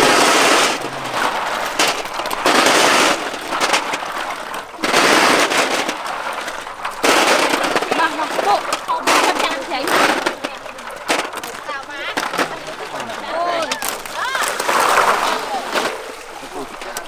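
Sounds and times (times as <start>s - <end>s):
snail shells clattering on metal: 0.0s - 17.0s
wet splashing: 0.0s - 17.0s.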